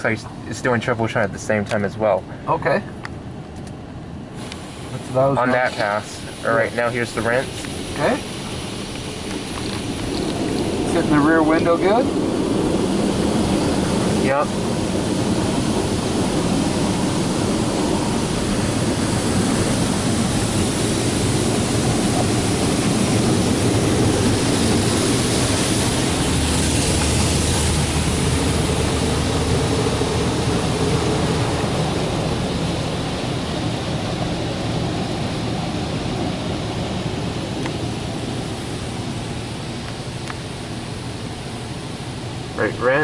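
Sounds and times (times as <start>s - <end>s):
water spray drumming on car body: 4.4s - 42.6s.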